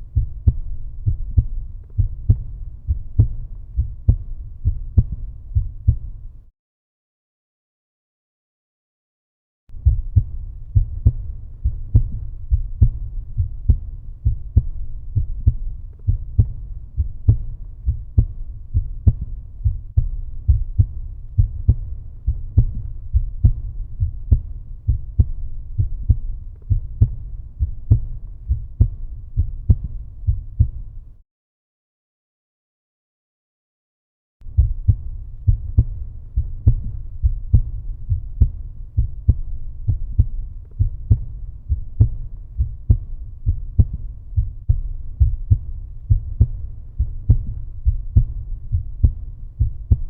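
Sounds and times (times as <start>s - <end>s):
heartbeat thumps: 0.0s - 6.4s, 9.7s - 31.1s, 34.4s - 50.0s.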